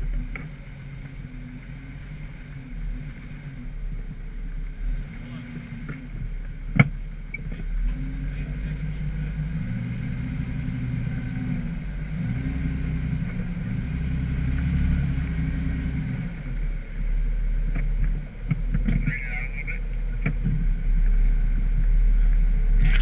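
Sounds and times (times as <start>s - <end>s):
engine running under load: 0.0s - 23.0s.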